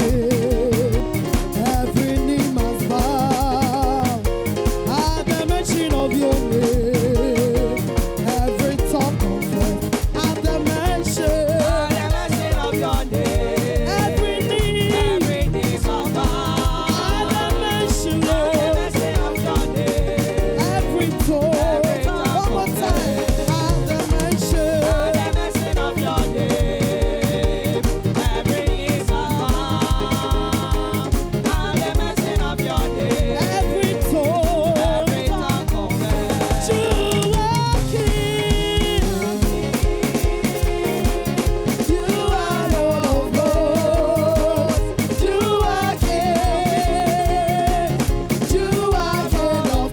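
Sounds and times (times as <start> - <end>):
live band playing praise music: 0.0 - 49.9.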